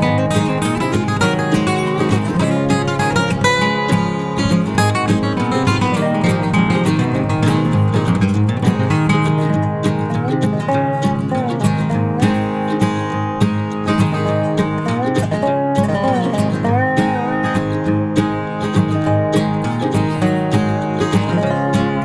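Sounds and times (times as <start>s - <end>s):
strummed background music: 0.0s - 22.0s.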